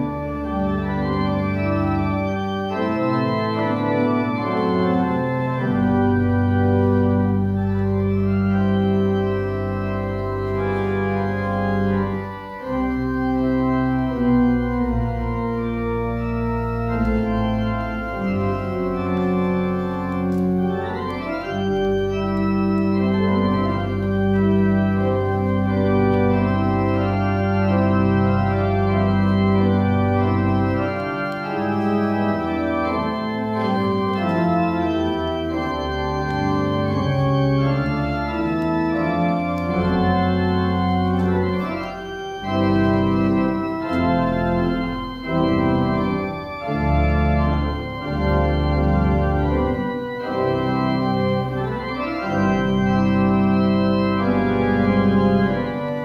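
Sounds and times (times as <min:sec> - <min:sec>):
church organ chords: 0:00.0 - 0:56.0
deep organ bass notes: 0:00.0 - 0:56.0.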